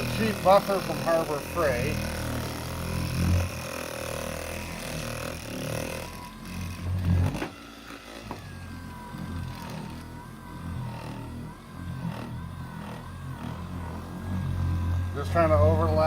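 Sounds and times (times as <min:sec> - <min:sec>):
electric car polisher running: 0:00.0 - 0:16.0.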